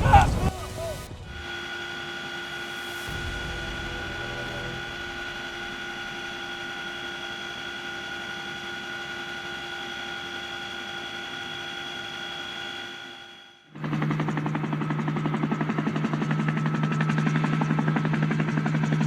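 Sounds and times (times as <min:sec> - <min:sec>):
helicopter turbine engine whine: 0:00.0 - 0:19.0.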